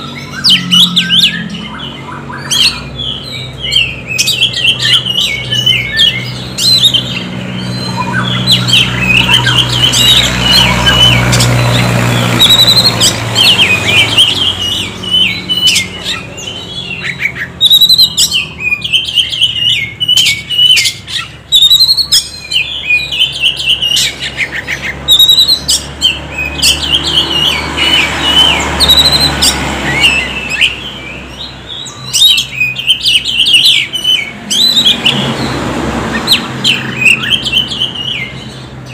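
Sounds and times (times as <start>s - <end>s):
bird singing chirps and whistles: 0.0s - 38.9s.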